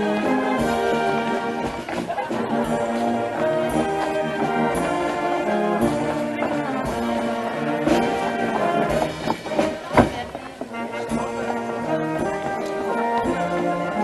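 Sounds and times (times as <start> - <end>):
brass band playing folk dance: 0.0 - 14.0.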